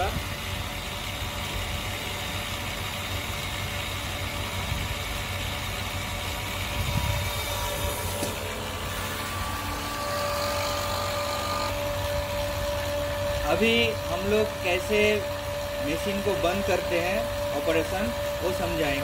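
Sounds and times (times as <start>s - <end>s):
steady machine whine: 0.0s - 19.0s
steady motor hum: 0.0s - 19.0s.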